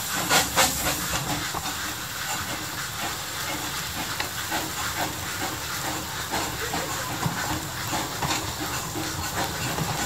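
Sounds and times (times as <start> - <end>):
steam hissing: 0.0 - 10.0
train wheels clicking over rail joints: 0.0 - 10.0.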